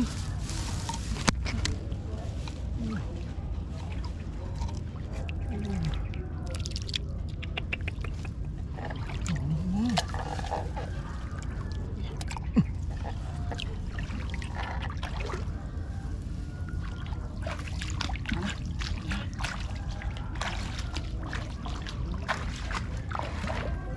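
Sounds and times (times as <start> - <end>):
water splashing and sloshing: 0.0 - 23.9.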